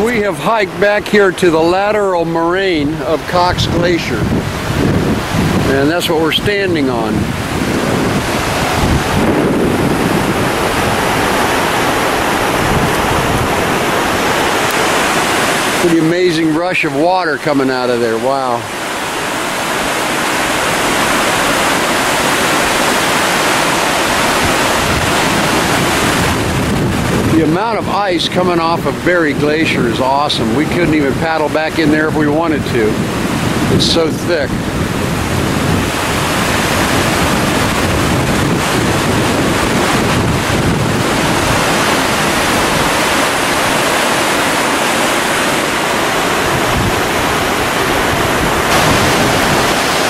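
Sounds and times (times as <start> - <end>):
river water rushing: 0.0 - 50.0
wind buffeting microphone: 0.0 - 50.0.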